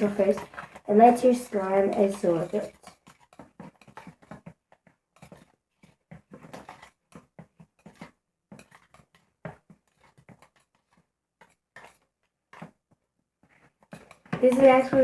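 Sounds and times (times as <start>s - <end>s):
slime squelching: 0.0s - 15.0s.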